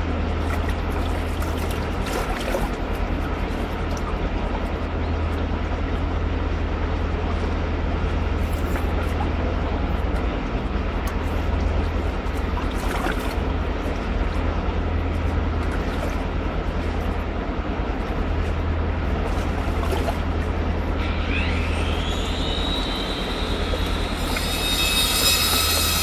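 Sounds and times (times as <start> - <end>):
deep rumble: 0.0 - 26.0.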